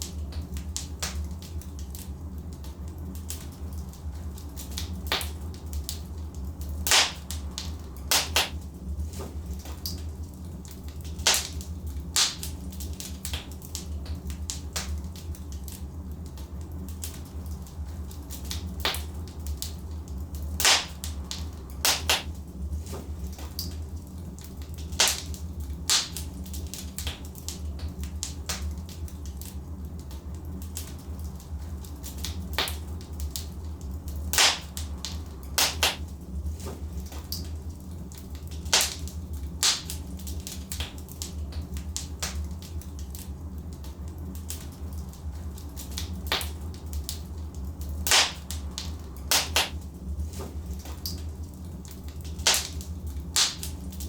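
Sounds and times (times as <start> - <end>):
fire low rumble: 0.0 - 54.0
logs crackling in fireplace: 0.0 - 54.0.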